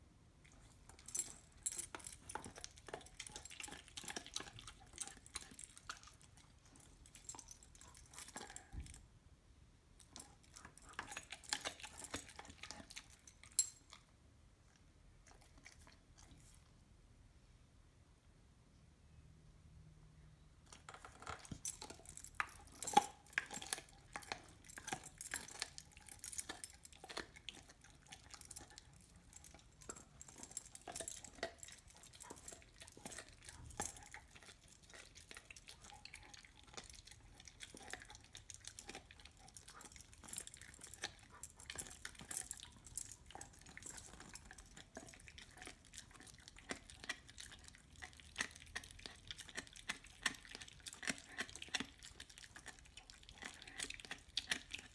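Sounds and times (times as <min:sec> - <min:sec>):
dog gnawing a bone: 0:00.4 - 0:09.0, 0:10.0 - 0:14.1, 0:20.7 - 0:54.9.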